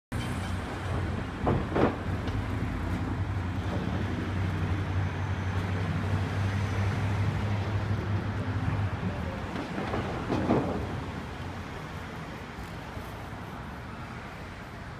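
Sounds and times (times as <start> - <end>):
street traffic: 0.1 - 14.9.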